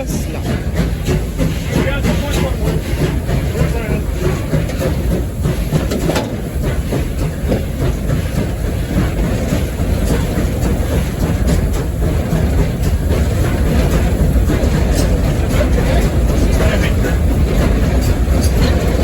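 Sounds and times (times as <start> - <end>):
steam locomotive rumbling: 0.0 - 19.0.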